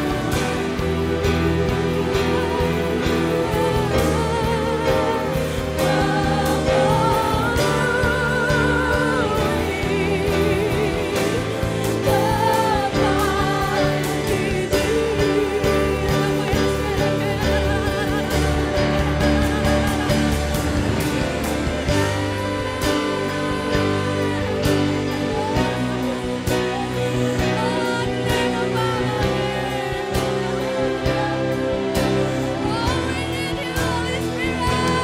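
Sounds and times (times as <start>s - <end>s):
singers with vibrato: 0.0s - 35.0s
sustained instrumental backing: 0.0s - 35.0s.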